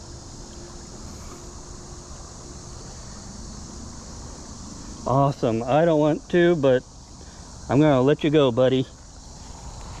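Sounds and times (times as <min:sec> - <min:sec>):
even hiss: 0:00.0 - 0:10.0.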